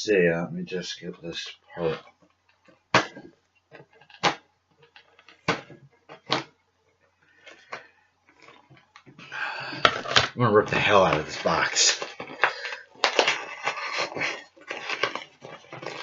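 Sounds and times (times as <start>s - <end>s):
cardboard packaging rustling: 1.7s - 6.6s, 7.2s - 16.0s.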